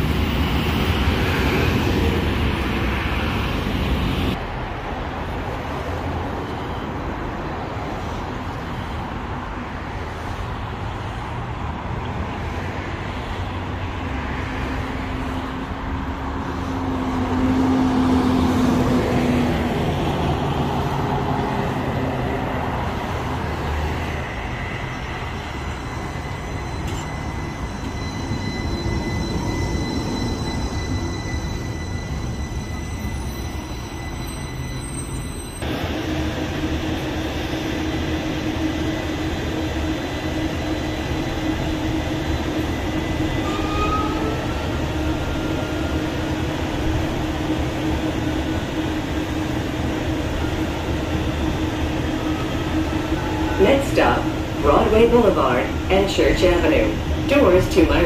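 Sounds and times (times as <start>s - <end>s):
street traffic: 0.0s - 58.0s
streetcar high whine: 0.0s - 58.0s.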